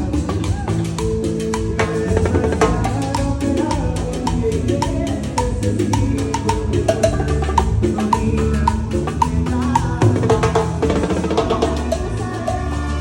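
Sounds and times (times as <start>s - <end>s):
drum beat: 0.0s - 13.0s
low bass line: 0.0s - 13.0s.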